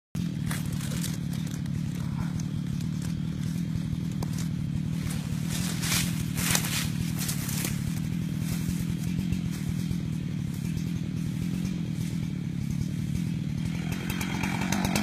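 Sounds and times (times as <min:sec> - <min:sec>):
chainsaw running: 0:00.2 - 0:15.0.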